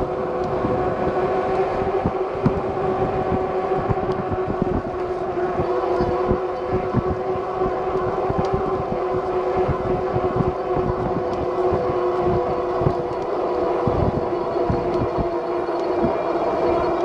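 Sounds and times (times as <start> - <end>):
electric bike motor whining: 0.0 - 17.0
wind buffeting microphone: 0.0 - 17.0.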